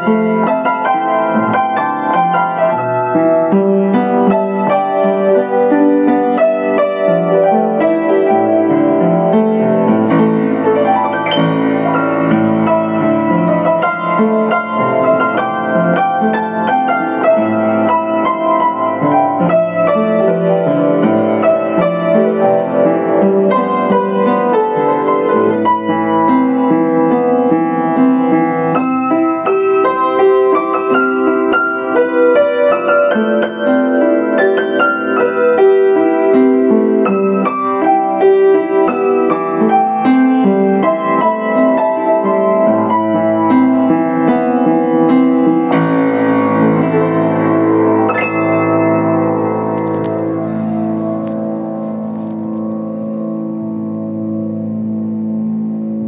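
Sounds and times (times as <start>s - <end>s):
upright piano playing: 0.0s - 56.0s.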